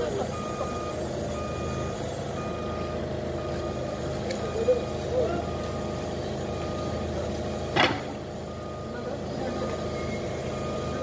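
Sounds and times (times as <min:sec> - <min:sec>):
forklift engine running: 0:00.0 - 0:11.0
warning alarm beeping: 0:00.3 - 0:07.1, 0:08.5 - 0:11.0.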